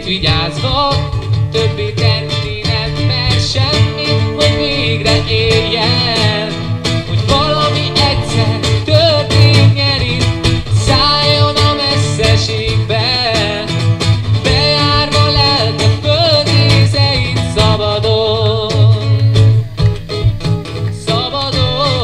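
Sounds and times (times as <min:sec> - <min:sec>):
man singing: 0:00.0 - 0:19.7, 0:20.7 - 0:22.0
deep bass: 0:00.0 - 0:22.0
strummed acoustic guitars: 0:00.0 - 0:22.0.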